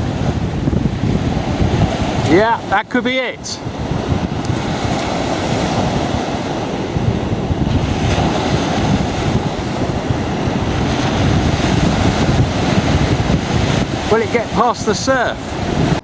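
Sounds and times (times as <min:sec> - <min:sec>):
surf breaking on a beach: 0:00.0 - 0:16.0
wind buffeting microphone: 0:00.0 - 0:16.0.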